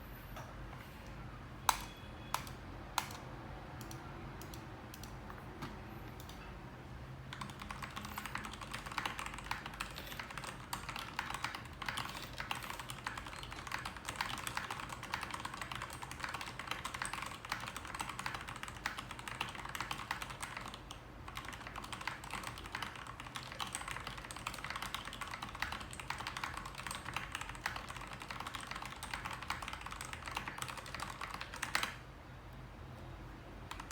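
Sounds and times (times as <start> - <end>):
mechanical keyboard typing: 1.7 - 6.5, 7.3 - 32.0, 33.7 - 33.9.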